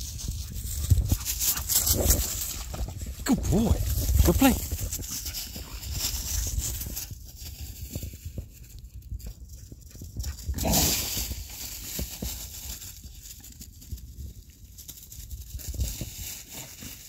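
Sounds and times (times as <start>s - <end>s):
low thumps and rumble: 0.0s - 14.4s.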